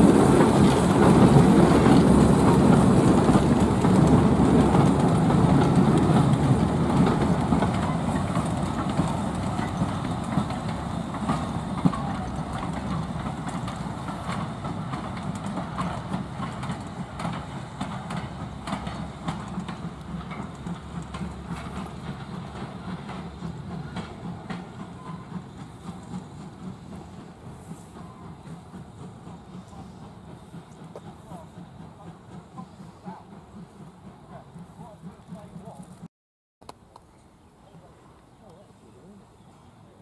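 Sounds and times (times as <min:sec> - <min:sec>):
steam locomotive working: 0:00.0 - 0:36.1
wheels clattering over rail joints: 0:00.0 - 0:36.1.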